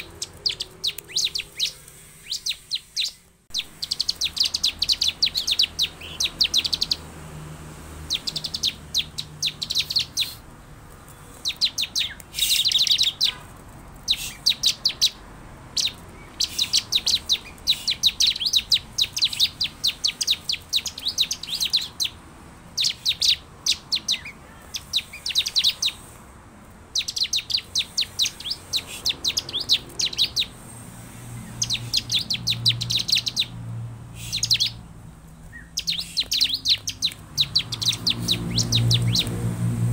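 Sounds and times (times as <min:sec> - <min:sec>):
bird chirping rapidly: 0:00.0 - 0:26.2, 0:26.8 - 0:39.9.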